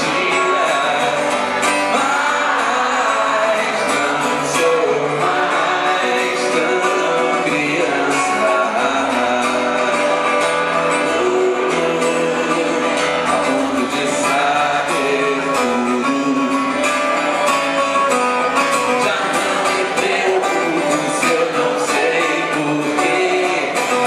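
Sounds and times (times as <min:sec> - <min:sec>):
man singing into a microphone: 0:00.0 - 0:17.8, 0:18.5 - 0:24.0
acoustic guitar strumming: 0:00.0 - 0:24.0.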